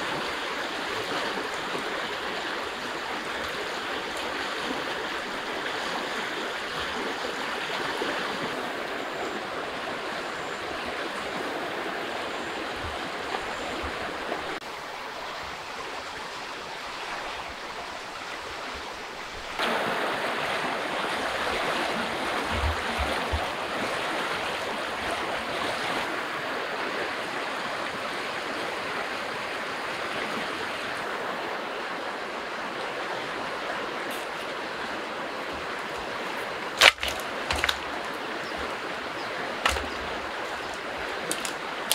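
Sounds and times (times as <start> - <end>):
river water rushing over rapids: 0.0 - 41.9.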